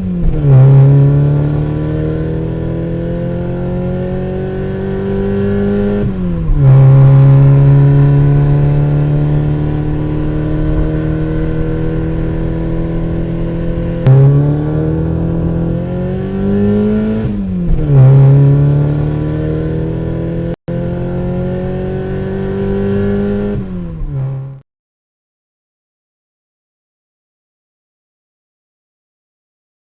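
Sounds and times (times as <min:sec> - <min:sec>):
vehicle engine pulling: 0:00.0 - 0:24.6.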